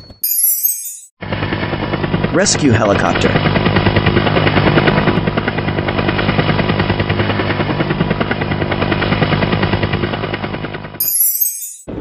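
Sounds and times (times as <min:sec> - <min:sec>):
helicopter rotor chopping: 0:01.2 - 0:12.0.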